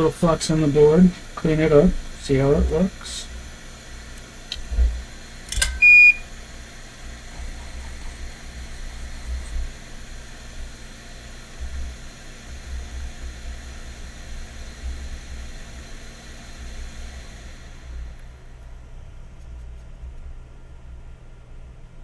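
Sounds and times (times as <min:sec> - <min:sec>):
equipment hiss and electrical hum: 0:00.0 - 0:22.0.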